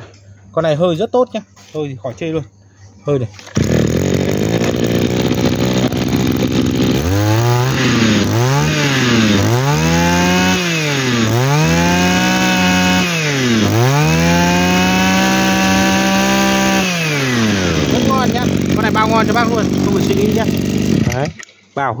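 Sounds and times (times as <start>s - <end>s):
brush cutter engine revving: 3.4s - 21.5s.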